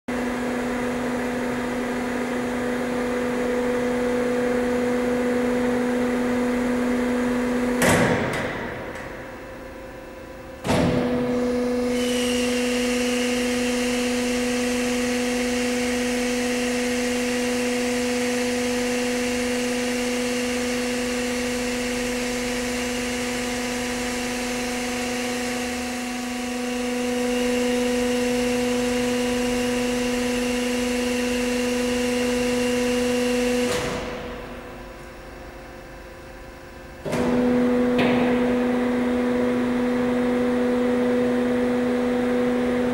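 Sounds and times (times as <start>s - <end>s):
low machine hum: 0.1s - 42.9s.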